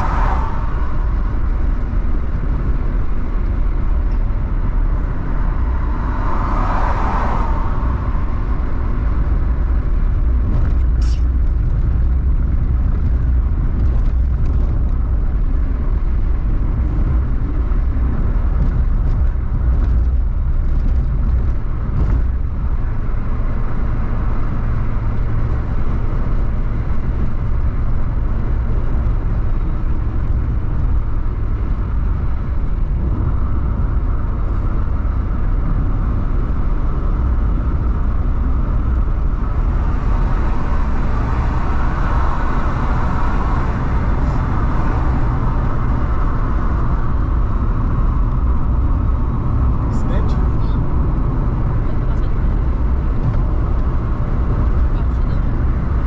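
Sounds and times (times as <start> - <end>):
car engine drone: 0.0 - 56.0
tyre noise on asphalt: 0.0 - 56.0.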